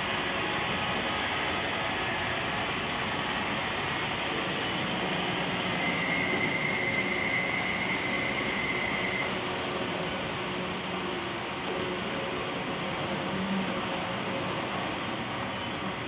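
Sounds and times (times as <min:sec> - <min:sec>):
model train rolling rumble: 0:00.0 - 0:16.0
thin high whine: 0:00.0 - 0:16.0.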